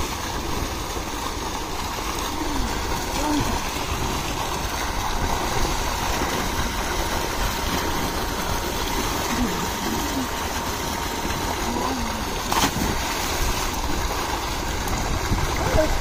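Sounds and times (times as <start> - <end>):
water gushing into tank: 0.0 - 16.0
person diving splash: 2.0 - 16.0.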